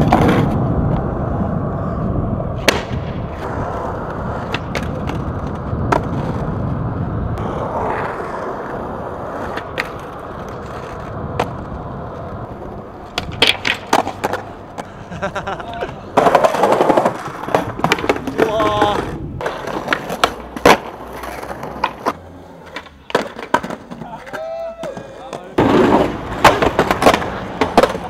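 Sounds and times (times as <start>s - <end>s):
skateboard clacking on ground: 0.0s - 1.1s, 2.6s - 6.5s, 7.4s - 28.0s
skateboard wheels rolling on concrete: 0.0s - 28.0s.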